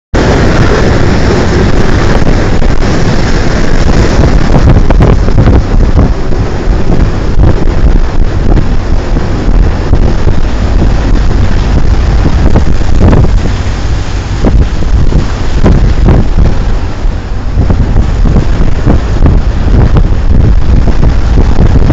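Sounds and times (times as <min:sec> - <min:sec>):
rough sea waves rushing: 0:00.1 - 0:21.9
wind buffeting microphone: 0:00.1 - 0:21.9.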